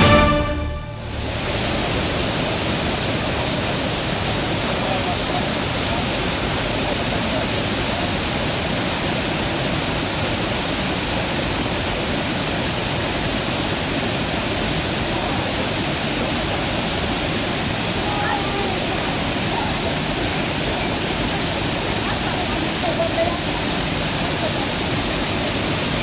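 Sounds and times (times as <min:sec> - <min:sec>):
waterfall rushing over rocks: 0:01.0 - 0:26.0.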